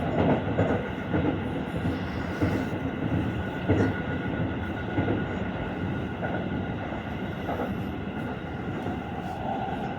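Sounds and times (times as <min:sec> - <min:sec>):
train cabin rumble: 0:00.0 - 0:09.9.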